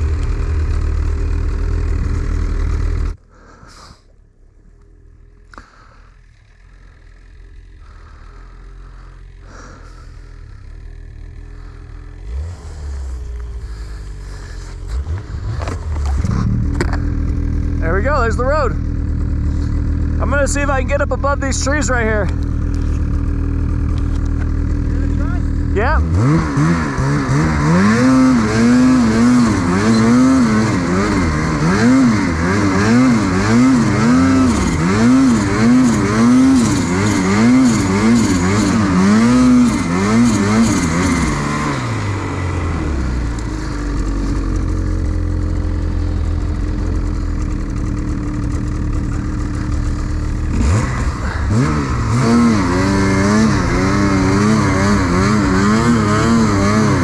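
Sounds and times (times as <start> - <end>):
snowmobile engine revving: 0.0 - 4.0, 5.5 - 57.0.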